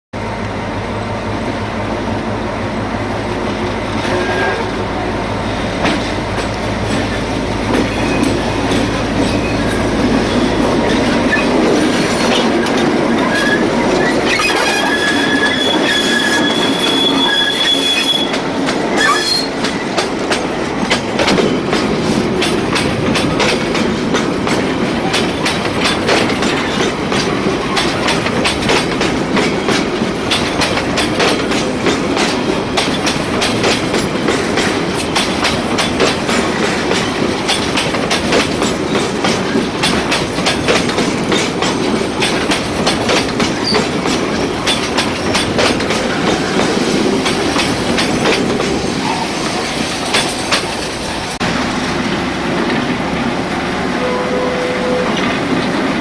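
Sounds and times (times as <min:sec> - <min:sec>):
diesel locomotive humming: 0:00.2 - 0:56.0
wheels squealing on rails: 0:03.0 - 0:23.9, 0:24.5 - 0:56.0
clickety-clack of wheels: 0:05.8 - 0:51.4.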